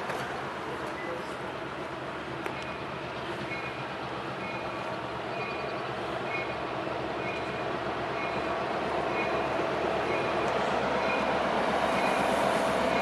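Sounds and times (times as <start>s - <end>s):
diesel locomotives running: 0.0s - 13.0s.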